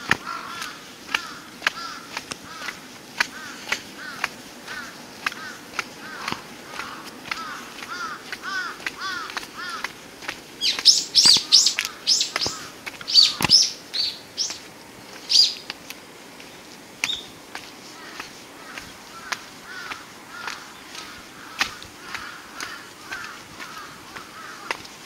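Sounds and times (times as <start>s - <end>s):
small songbirds chirping: 0.0s - 15.7s, 16.4s - 25.0s.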